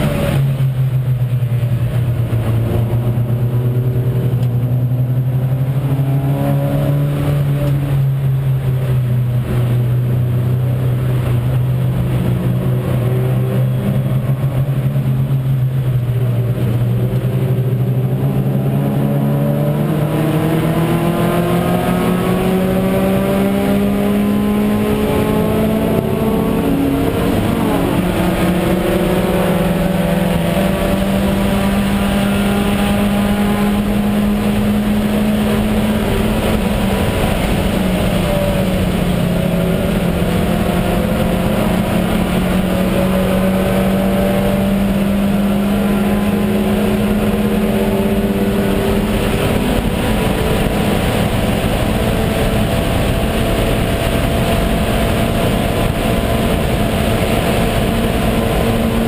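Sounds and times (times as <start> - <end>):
race car engine at high revs: 0.0 - 59.0
road and wind noise: 0.0 - 59.0.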